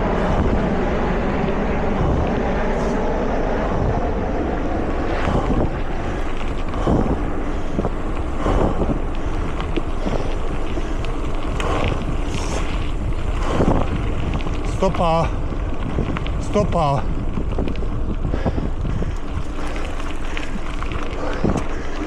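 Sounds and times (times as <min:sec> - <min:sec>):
bike knocking and rattling: 0:00.0 - 0:22.0
bike tyre rumble: 0:00.0 - 0:22.0
wind buffeting microphone: 0:00.0 - 0:22.0.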